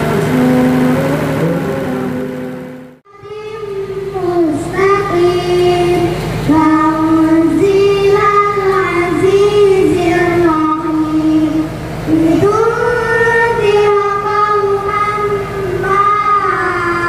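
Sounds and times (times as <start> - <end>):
high voice singing held notes: 0.0 - 17.0
steady low hum: 0.0 - 17.0.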